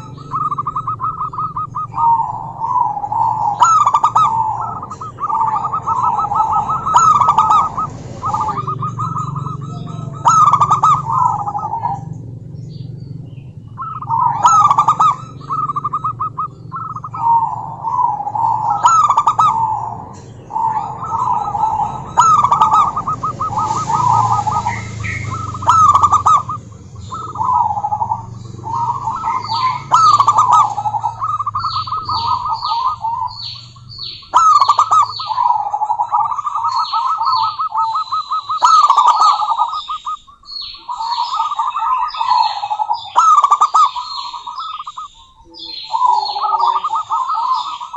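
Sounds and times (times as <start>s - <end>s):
dove trilled cooing: 0.0s - 47.9s
thin descending bird chirps: 0.0s - 47.9s.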